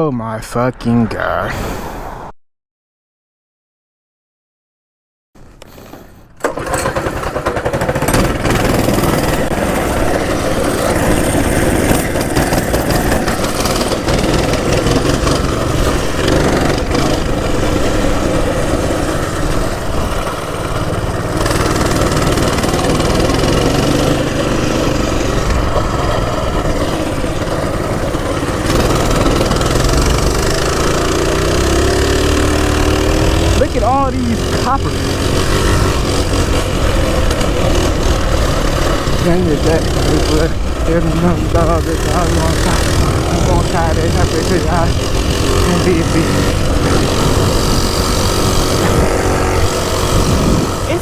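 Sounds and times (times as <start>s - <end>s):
small engine running: 5.6s - 51.0s.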